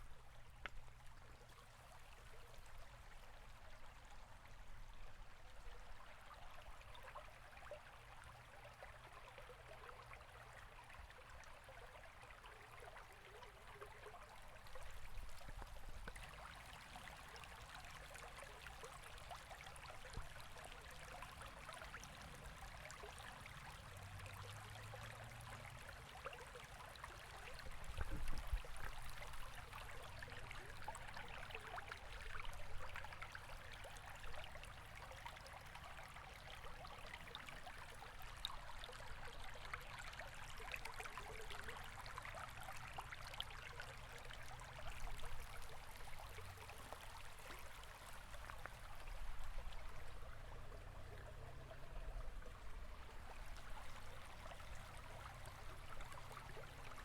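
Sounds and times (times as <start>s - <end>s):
river water flowing and burbling: 0.0s - 57.0s.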